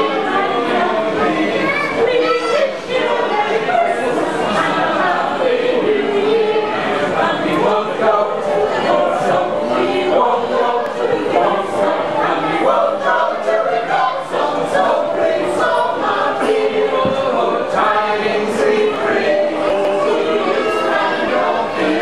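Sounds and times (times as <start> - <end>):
choir singing unaccompanied: 0.0 - 22.0.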